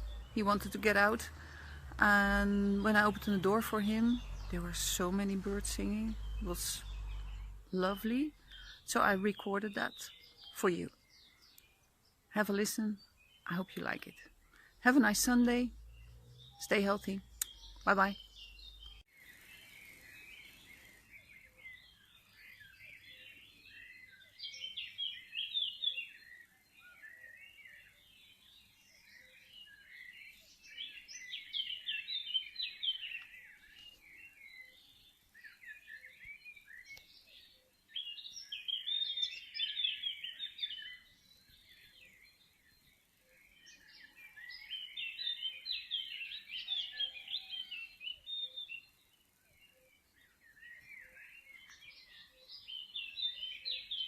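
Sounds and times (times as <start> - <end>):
birds chirping in dawn chorus: 0.0 - 54.0.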